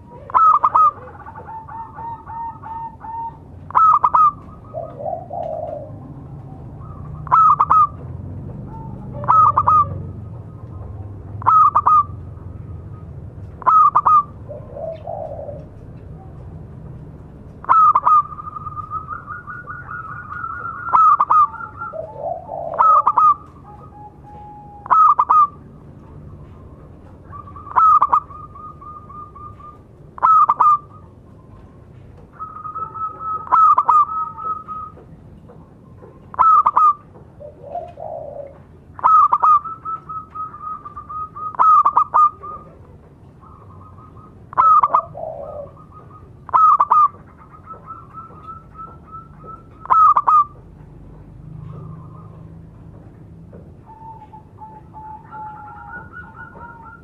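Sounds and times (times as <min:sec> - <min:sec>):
dove cooing: 0:00.0 - 0:57.0
dove trilled coos: 0:00.0 - 0:57.0.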